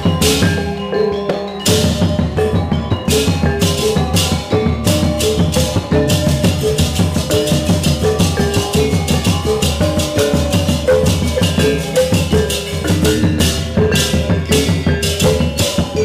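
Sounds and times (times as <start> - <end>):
hand drum playing: 0.0 - 16.0
metallophones and gongs ringing: 0.0 - 16.0.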